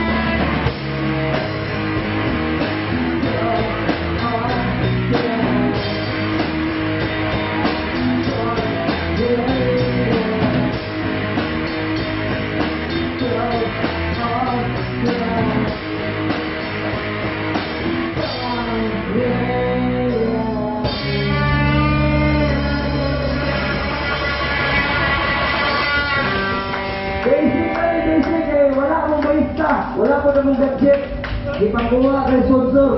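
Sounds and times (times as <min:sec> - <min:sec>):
live rock band playing: 0:00.0 - 0:32.9.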